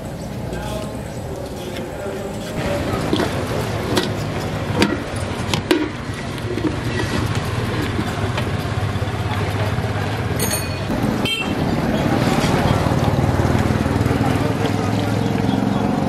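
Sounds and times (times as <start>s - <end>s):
low rumble of street traffic: 0.0s - 16.0s.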